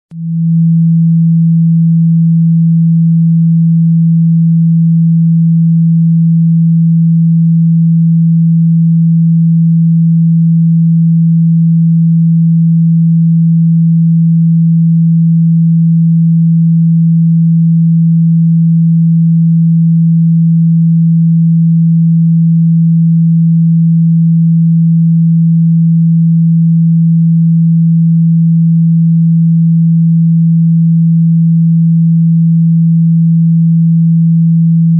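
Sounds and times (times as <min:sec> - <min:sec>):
low sine tone hum: 0:00.0 - 0:34.9.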